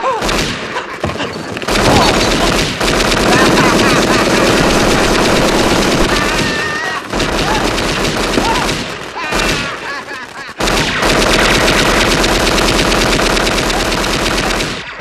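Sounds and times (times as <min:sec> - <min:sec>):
machine-gun fire: 0:00.0 - 0:15.0
firecrackers crackling: 0:00.4 - 0:15.0.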